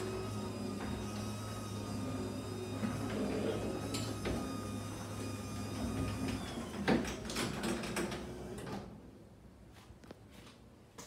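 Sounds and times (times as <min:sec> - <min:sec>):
garage door motor hum: 0:00.0 - 0:09.1.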